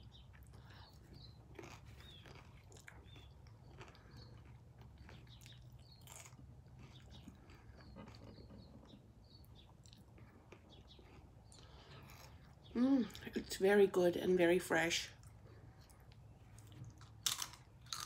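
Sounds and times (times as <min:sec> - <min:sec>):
chewing crunchy shell: 0:00.0 - 0:12.8, 0:15.2 - 0:18.0.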